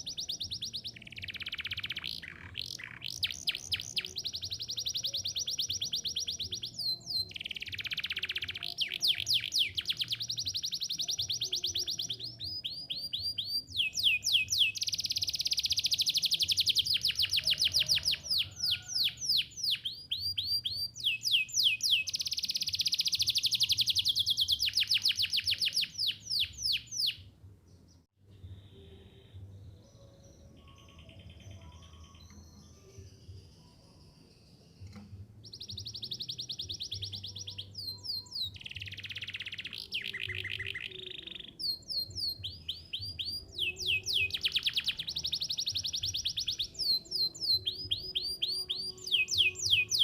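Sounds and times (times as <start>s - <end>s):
canary singing trills: 0.0s - 28.0s, 28.6s - 50.0s
faint bird chirps: 0.0s - 50.0s.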